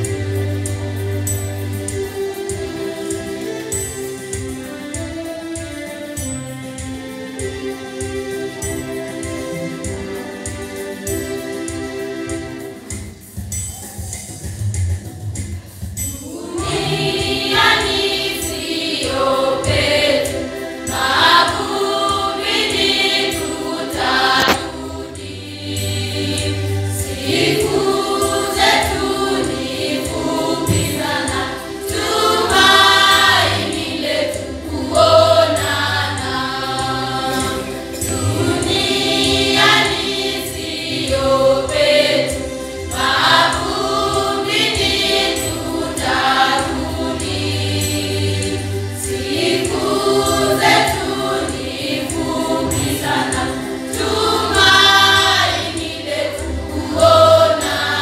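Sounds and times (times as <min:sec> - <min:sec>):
choir singing a hymn: 0:00.0 - 0:13.0, 0:16.1 - 0:58.0.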